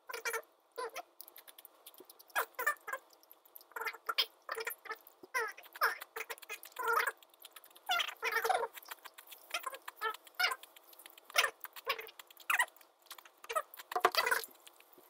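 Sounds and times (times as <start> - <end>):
chewing crispy fries: 0.2 - 15.0
mouth smacks: 0.2 - 15.0.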